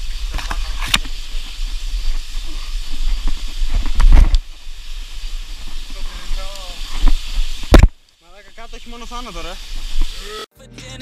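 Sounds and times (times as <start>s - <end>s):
rustling and scraping of branches: 0.0s - 10.4s.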